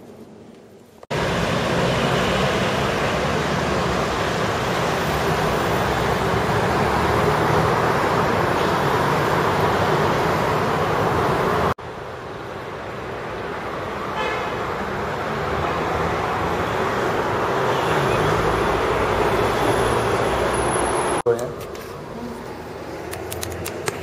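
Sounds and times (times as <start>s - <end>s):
distant traffic: 0.4s - 24.0s
vehicles passing close by: 1.1s - 24.0s.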